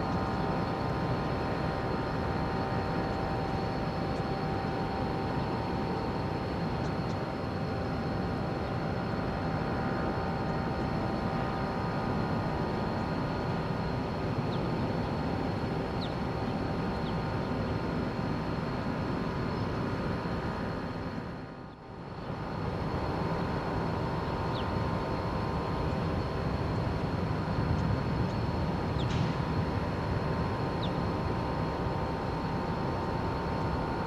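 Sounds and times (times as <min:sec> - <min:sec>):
ship machinery drone: 0:00.0 - 0:34.0.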